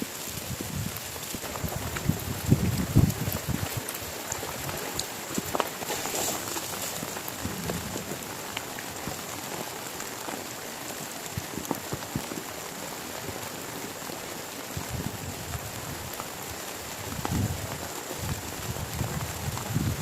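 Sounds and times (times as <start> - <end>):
heavy rain falling: 0.0 - 20.0
raindrops ticking: 0.0 - 20.0.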